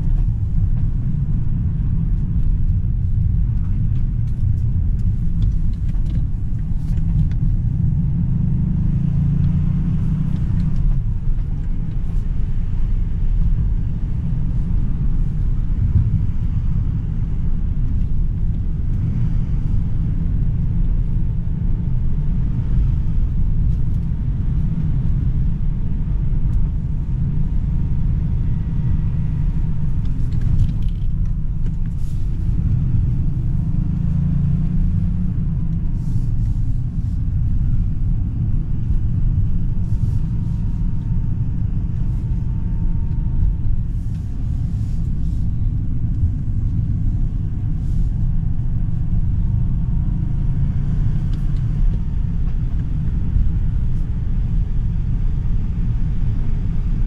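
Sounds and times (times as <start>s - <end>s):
car engine running: 0.0s - 57.0s
tyre and road rumble: 0.0s - 57.0s.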